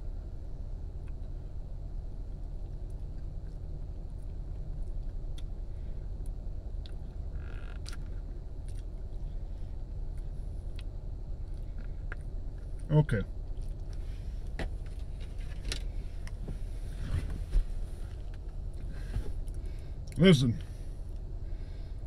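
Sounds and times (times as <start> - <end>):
low rumble inside car: 0.0 - 22.0.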